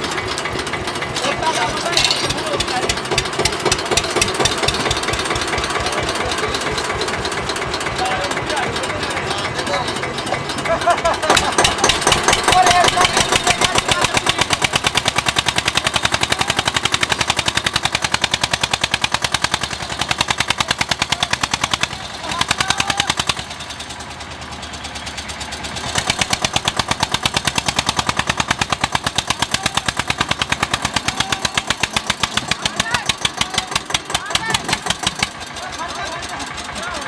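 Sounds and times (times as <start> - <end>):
tractor diesel engine chugging: 0.0 - 37.0.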